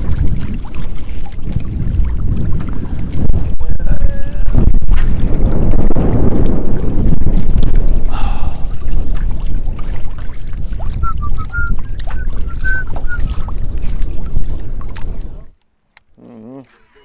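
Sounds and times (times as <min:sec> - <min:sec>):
wind buffeting microphone: 0:00.0 - 0:15.5
water splashing against boat: 0:00.0 - 0:17.0.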